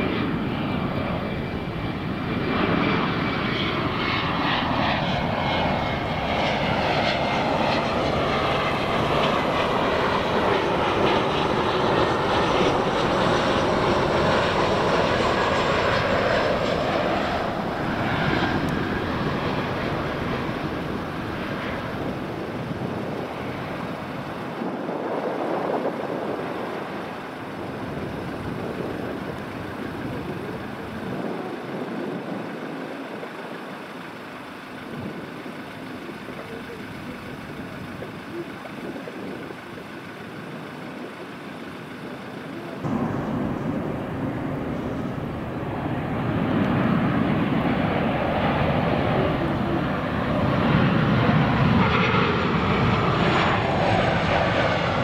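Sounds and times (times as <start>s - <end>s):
jet engines on approach: 0.0s - 55.0s.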